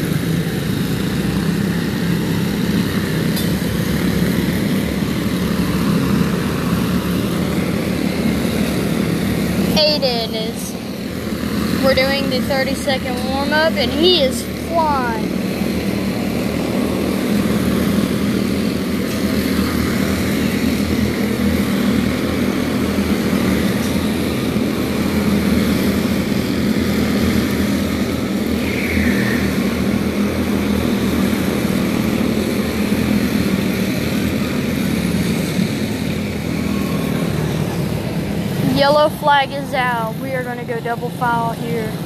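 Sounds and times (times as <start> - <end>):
small race car engines droning: 0.0 - 42.0.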